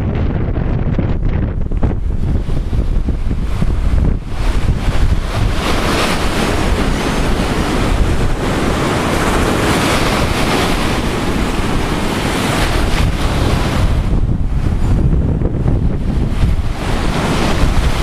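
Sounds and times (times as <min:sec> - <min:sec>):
wind buffeting microphone: 0:00.0 - 0:18.0
surf breaking on beach: 0:00.2 - 0:18.0.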